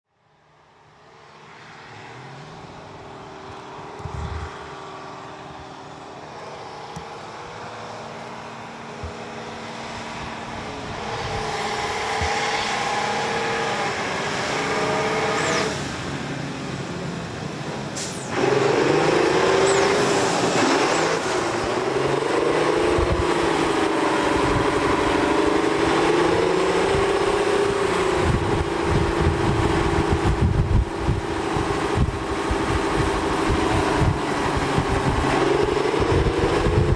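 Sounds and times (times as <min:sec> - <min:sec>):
heavy diesel truck engine: 0:00.2 - 0:36.9.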